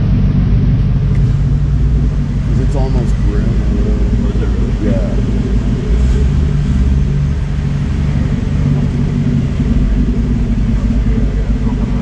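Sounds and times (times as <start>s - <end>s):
car engine idling with deep rumble: 0.0s - 12.0s.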